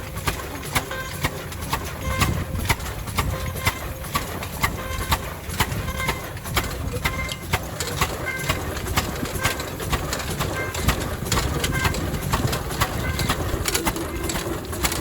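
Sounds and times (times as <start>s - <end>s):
diesel engine rumbling: 0.0s - 15.0s
engine clicking: 0.0s - 15.0s.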